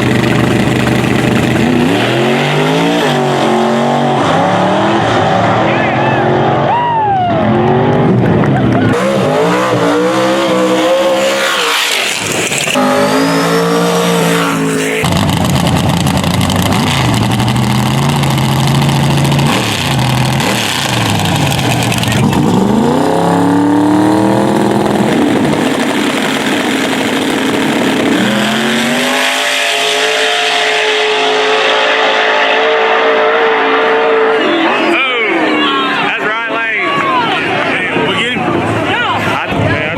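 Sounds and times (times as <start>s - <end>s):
drag racing car engines revving: 0.0s - 39.9s.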